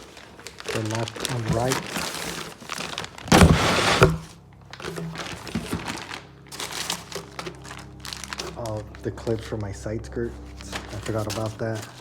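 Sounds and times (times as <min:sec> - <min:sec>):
plastic packaging crinkling: 0:00.0 - 0:09.5, 0:10.6 - 0:12.0.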